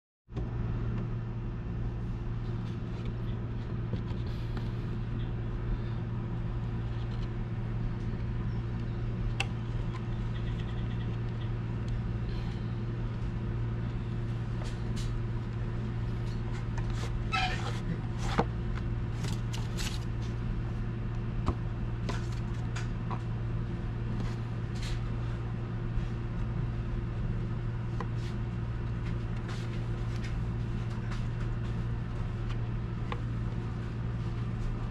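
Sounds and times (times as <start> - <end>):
steady low hum: 0.3 - 34.9.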